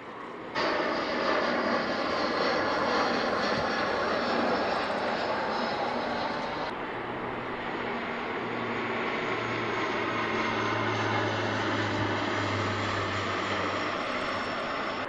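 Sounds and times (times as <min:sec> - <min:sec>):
airliner engines rushing: 0:00.0 - 0:15.0.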